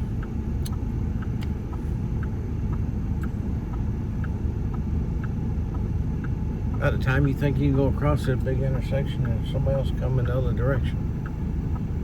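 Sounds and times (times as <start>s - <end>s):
car engine and road noise: 0.0s - 12.0s
turn signal ticking: 0.0s - 12.0s.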